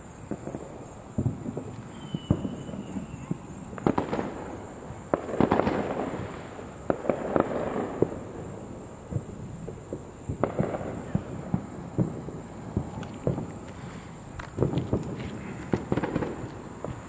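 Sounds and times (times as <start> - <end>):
fireworks and firecrackers popping: 0.0 - 17.0.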